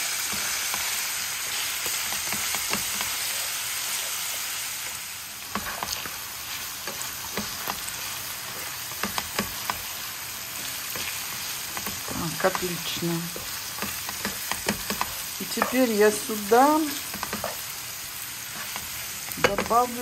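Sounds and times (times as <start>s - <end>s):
beef sizzling in frying pan: 0.0s - 20.0s
spatula scraping and tapping pan: 1.5s - 4.2s, 5.5s - 17.8s, 18.5s - 20.0s.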